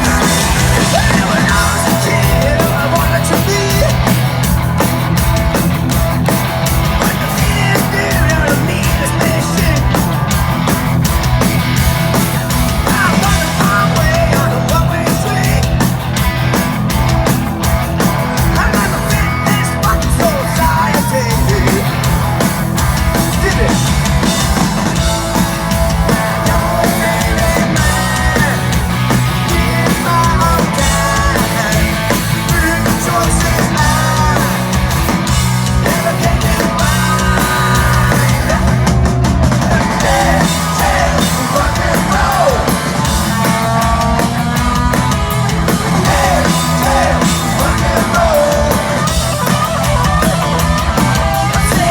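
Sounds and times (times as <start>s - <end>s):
drum kit: 0.0s - 51.9s
electric guitars: 0.0s - 51.9s
rock vocals: 0.0s - 51.9s.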